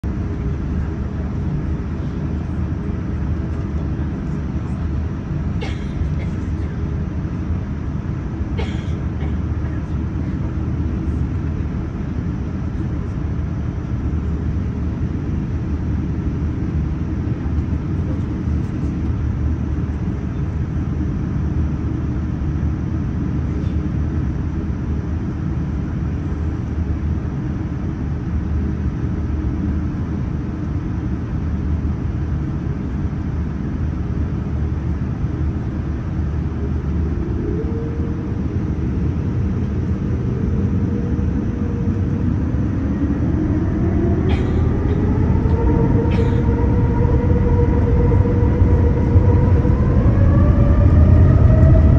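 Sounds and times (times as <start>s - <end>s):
airliner cabin rumble: 0.0s - 51.9s.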